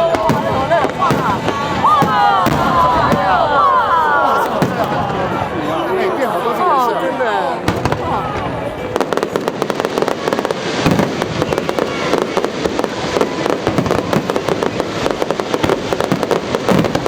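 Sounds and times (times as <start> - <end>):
fireworks crackling and popping: 0.0 - 5.7, 7.6 - 17.0.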